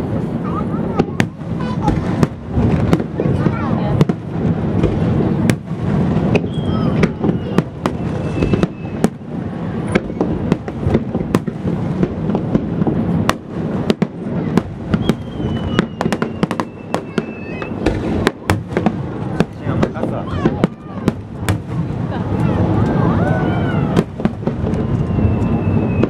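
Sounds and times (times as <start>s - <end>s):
descending firework whistles: 0.0s - 26.0s
fireworks bangs and crackles: 0.0s - 26.0s.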